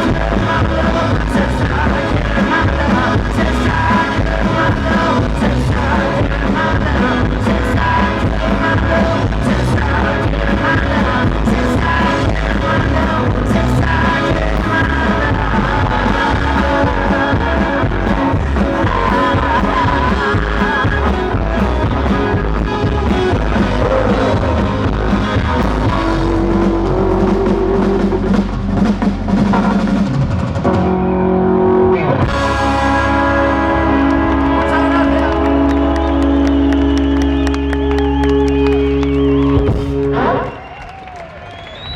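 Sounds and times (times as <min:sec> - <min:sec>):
live rock band playing: 0:00.0 - 0:40.6.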